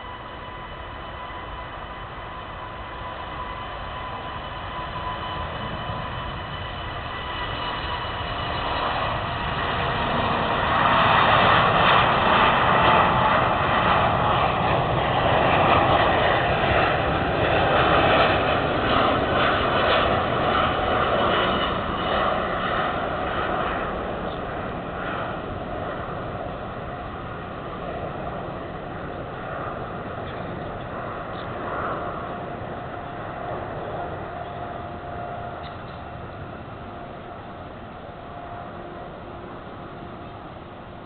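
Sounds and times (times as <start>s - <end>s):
jet engines whining: 0.0s - 41.0s.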